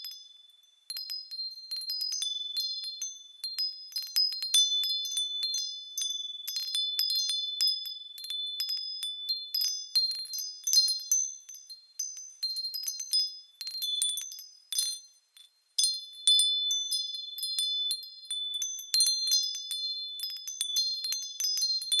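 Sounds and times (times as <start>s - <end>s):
small bells ringing like wind chimes: 0.0s - 22.0s.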